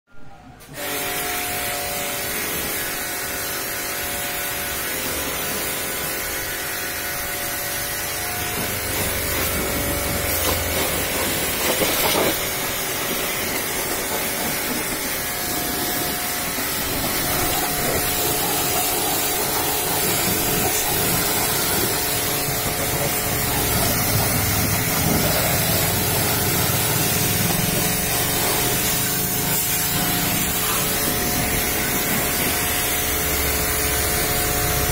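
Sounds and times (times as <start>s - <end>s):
pressure washer water jet hissing: 0.7s - 34.9s
motor and pump humming: 0.8s - 34.9s.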